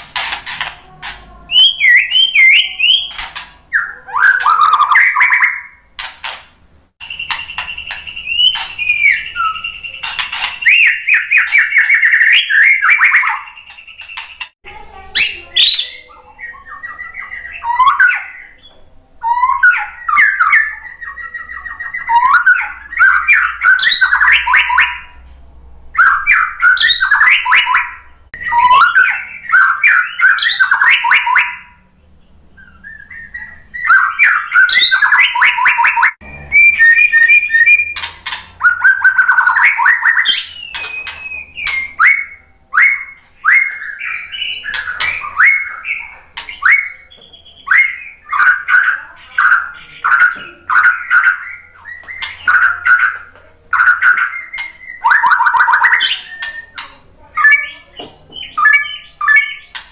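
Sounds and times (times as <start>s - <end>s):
bird singing whistled trills: 1.5s - 5.8s, 7.0s - 14.6s, 15.2s - 25.2s, 26.0s - 31.8s, 32.6s - 59.9s.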